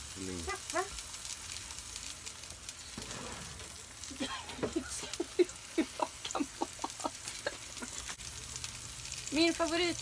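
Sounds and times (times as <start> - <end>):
vegetables sizzling in frying pans: 0.0 - 10.0.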